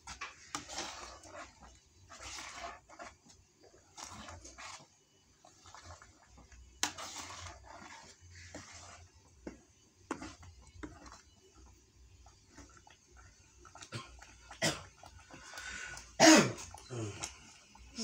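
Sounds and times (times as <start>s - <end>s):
spoon scraping paste in pan: 0.0s - 18.0s.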